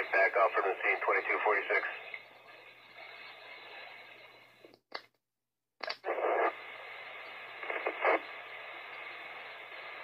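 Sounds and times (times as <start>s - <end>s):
radio static hiss and hum: 0.0s - 4.6s, 5.8s - 10.0s
radio crackles: 0.0s - 4.7s, 5.8s - 10.0s.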